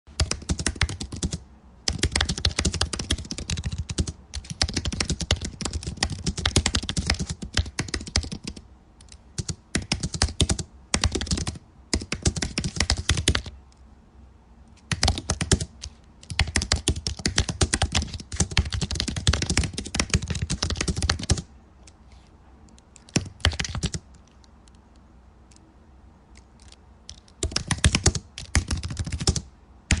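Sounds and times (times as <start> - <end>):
typing on laptop keyboard: 0.1 - 13.6, 14.8 - 21.5, 22.9 - 24.5, 26.4 - 30.0.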